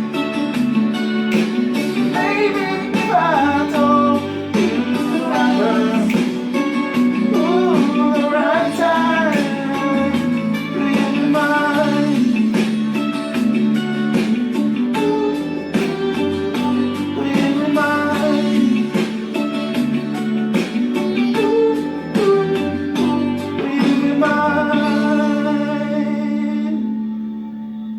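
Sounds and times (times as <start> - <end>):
person singing wordless melody: 0.0 - 14.1, 14.8 - 20.4, 21.0 - 27.9
guitar accompaniment: 0.0 - 27.9.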